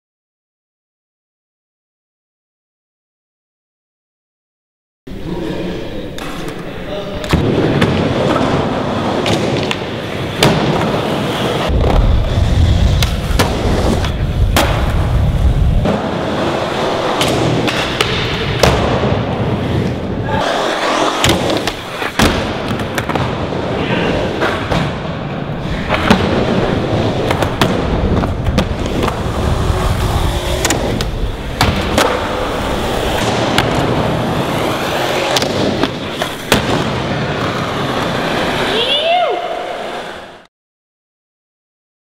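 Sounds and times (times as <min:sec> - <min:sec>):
skateboard wheels rolling on concrete: 0:06.1 - 0:40.5.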